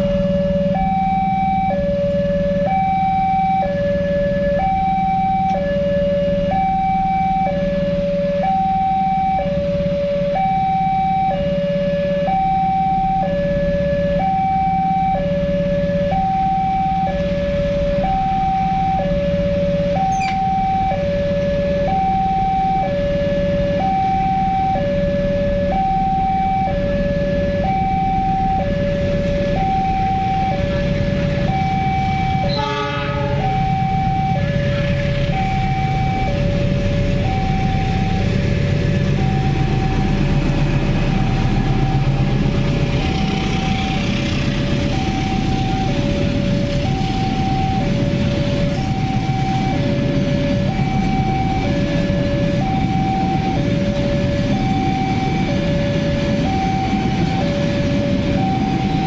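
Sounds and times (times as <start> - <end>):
two-tone crossing alarm: 0.0 - 59.0.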